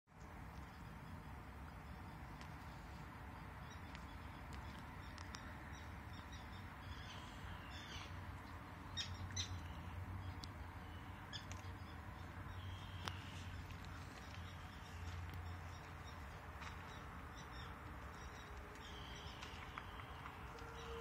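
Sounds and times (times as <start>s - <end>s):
birds chirping: 0.5s - 21.0s.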